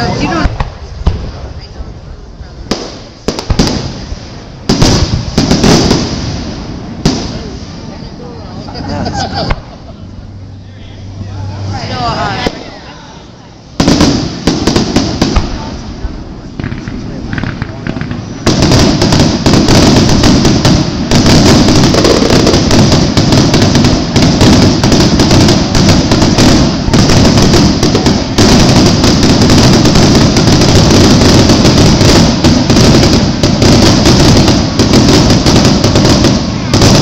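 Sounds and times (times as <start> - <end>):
fireworks bangs and crackling: 0.0 - 9.9, 11.1 - 12.9, 13.6 - 37.0.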